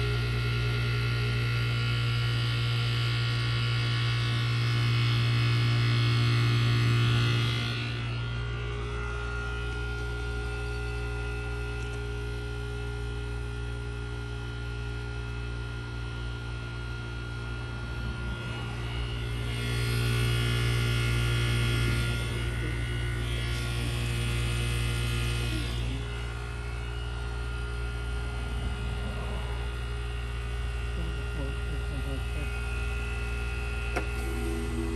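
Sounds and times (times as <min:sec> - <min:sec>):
heat pump compressor hum: 0:00.0 - 0:34.9.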